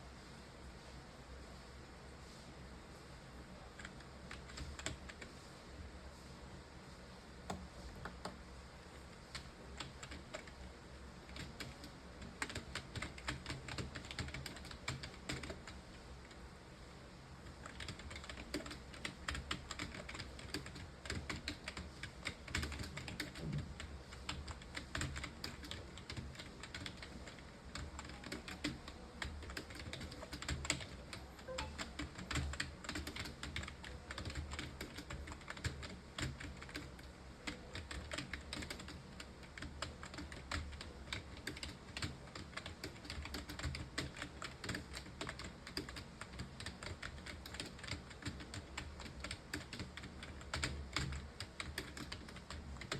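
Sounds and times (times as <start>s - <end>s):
fast typing on keyboard: 3.8s - 5.3s, 9.2s - 15.9s, 17.4s - 52.9s.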